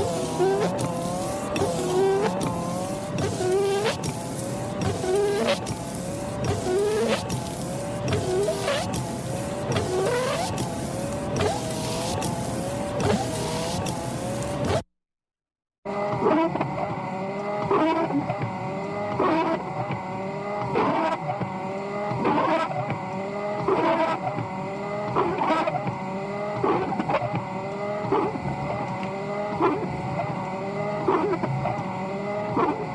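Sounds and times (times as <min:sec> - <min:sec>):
wiper blades squeaking on windshield: 0:00.0 - 0:14.8, 0:16.1 - 0:20.0, 0:20.6 - 0:32.9.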